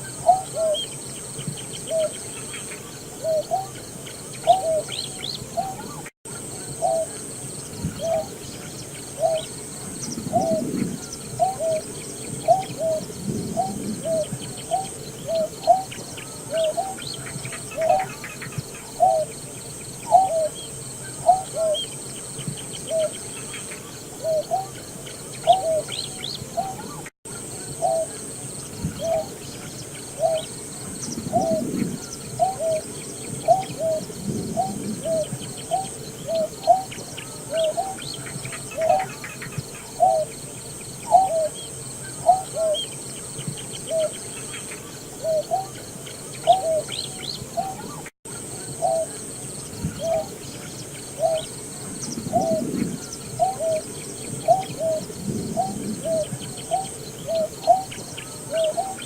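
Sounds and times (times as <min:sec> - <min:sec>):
bird hooting call: 0:00.0 - 0:01.0, 0:01.8 - 0:19.4, 0:20.0 - 0:22.0, 0:22.8 - 0:40.4, 0:41.0 - 0:43.0, 0:43.8 - 0:45.8, 0:46.4 - 0:50.4, 0:51.2 - 0:51.5, 0:52.1 - 0:59.0.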